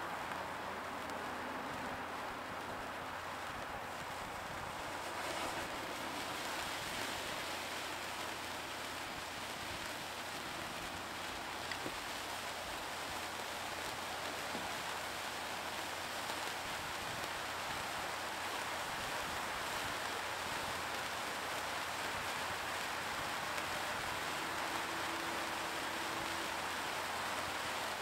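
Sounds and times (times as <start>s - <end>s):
sparklers fizzing: 0.1s - 28.0s.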